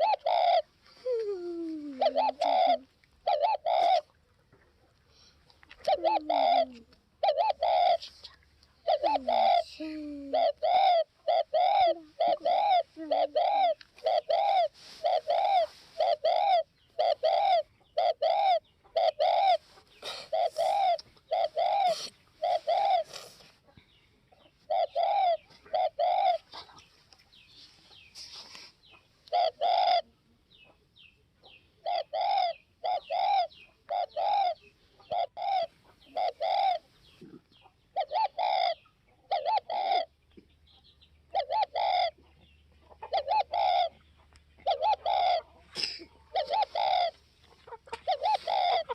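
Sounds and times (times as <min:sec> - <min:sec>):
dove cooing: 0:00.0 - 0:04.2, 0:05.2 - 0:23.4, 0:24.5 - 0:26.9, 0:29.3 - 0:30.2, 0:31.8 - 0:40.2, 0:41.3 - 0:44.0, 0:44.6 - 0:48.9.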